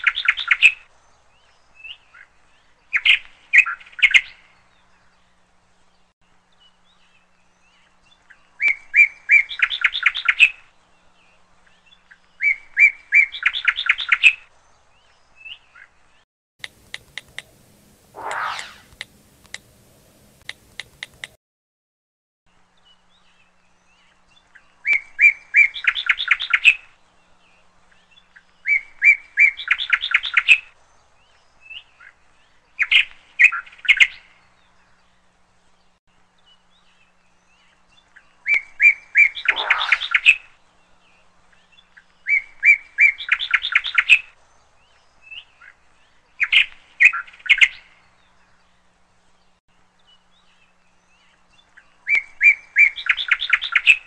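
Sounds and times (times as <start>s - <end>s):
songbird chirping: 0.0s - 21.4s, 22.5s - 54.0s.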